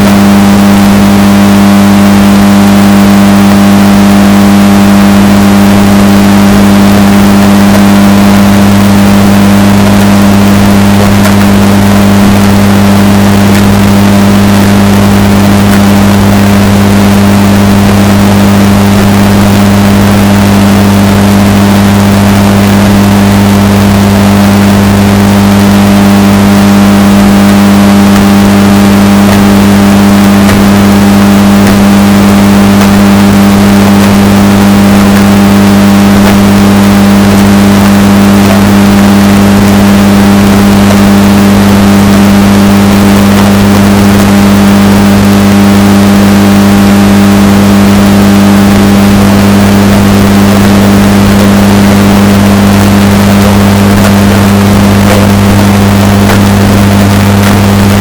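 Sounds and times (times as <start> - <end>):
distorted washing machine hum: 0.0 - 58.0.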